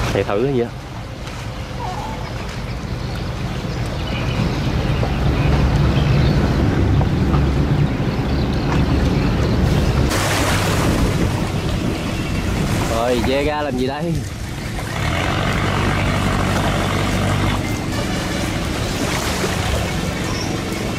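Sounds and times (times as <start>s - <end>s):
motorboat engine droning: 0.0s - 20.9s.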